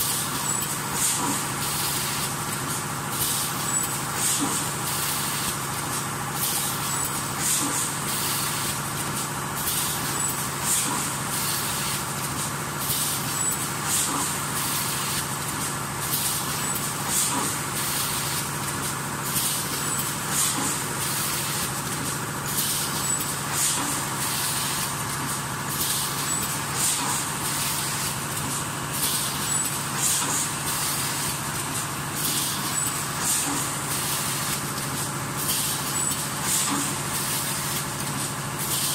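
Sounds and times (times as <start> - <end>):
machine hum and clatter: 0.0 - 38.9.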